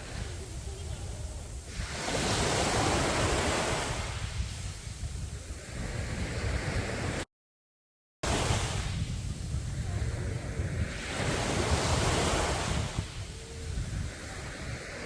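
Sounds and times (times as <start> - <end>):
sea waves breaking on beach: 0.0 - 7.2, 8.2 - 15.0
wind rumble on microphone: 0.0 - 7.2, 8.2 - 15.0.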